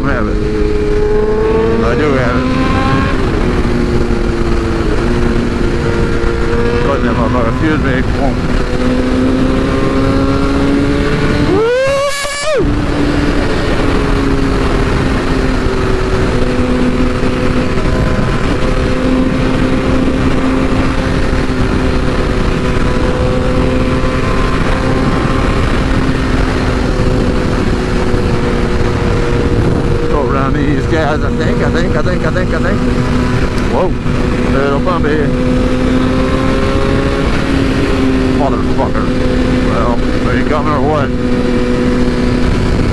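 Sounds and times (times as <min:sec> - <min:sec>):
motorcycle engine running: 0:00.0 - 0:42.9
sharp engine rev: 0:00.0 - 0:42.9
wind noise on microphone: 0:00.0 - 0:42.9.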